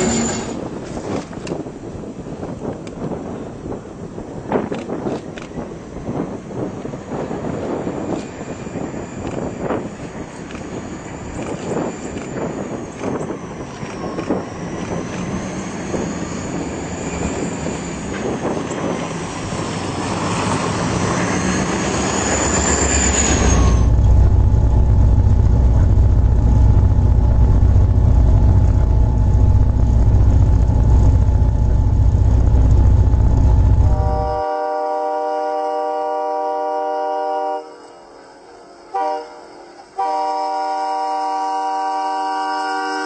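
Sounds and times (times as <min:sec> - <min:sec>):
heavy low train rumble: 0:00.0 - 0:43.0
train rushing noise with whine: 0:00.0 - 0:43.0.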